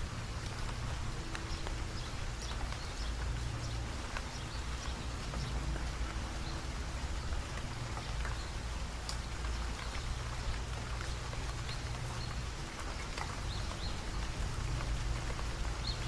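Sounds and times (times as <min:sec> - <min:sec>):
constant low rumble: 0:00.0 - 0:16.0
light rain falling: 0:00.0 - 0:16.0.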